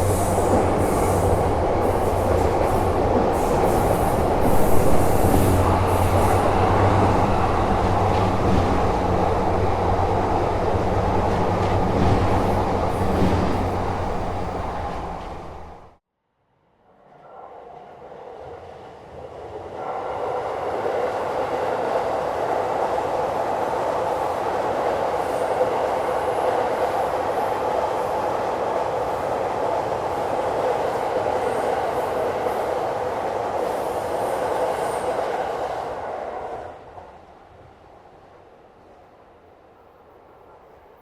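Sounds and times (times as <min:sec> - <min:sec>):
train rumbling past on rails: 0:00.0 - 0:16.0, 0:16.8 - 0:41.0.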